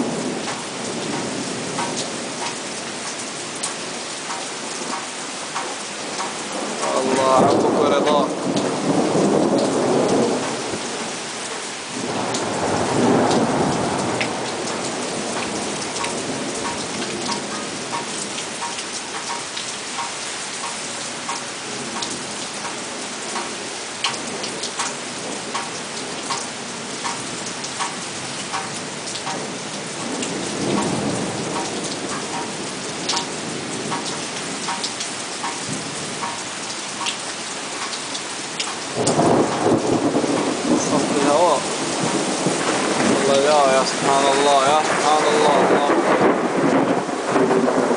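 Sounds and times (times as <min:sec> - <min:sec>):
thunder rumbling: 0:00.0 - 0:05.0, 0:05.6 - 0:19.3, 0:24.1 - 0:34.8, 0:38.8 - 0:47.9
heavy rain pouring: 0:00.0 - 0:47.9
raindrops tapping close by: 0:00.0 - 0:47.9.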